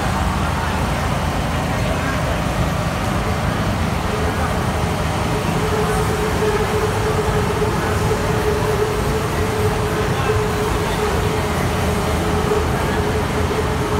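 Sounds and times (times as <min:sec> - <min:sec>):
generator droning: 0:00.0 - 0:13.9.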